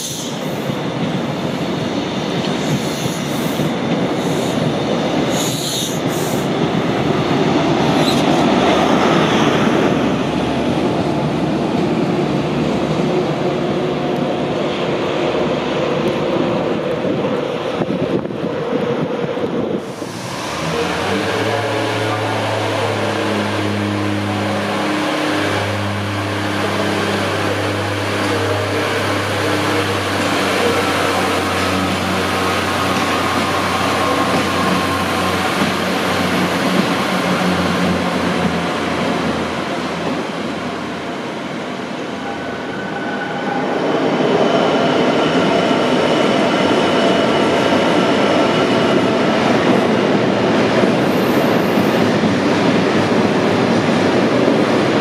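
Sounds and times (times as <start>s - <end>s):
diesel railcar engine drone: 0.0s - 55.0s
train rushing: 0.0s - 55.0s.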